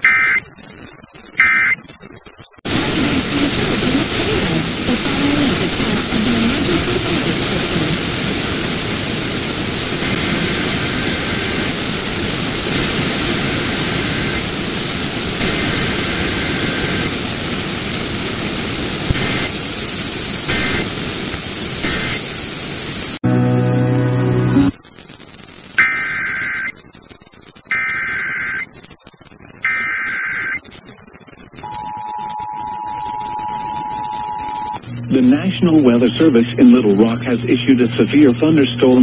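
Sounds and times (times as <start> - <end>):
radio static hiss: 0.0 - 39.0
static crackles: 0.0 - 39.0.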